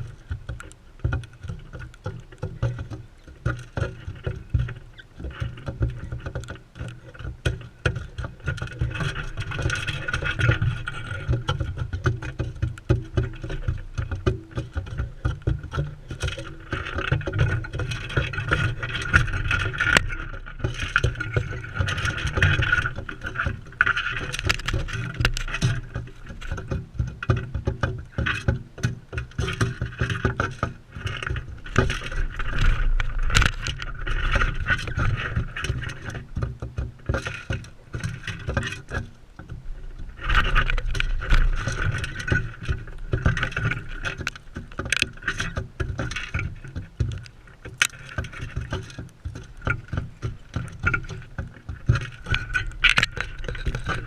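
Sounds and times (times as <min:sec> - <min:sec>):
birds pecking at seed: 0:00.0 - 0:54.0.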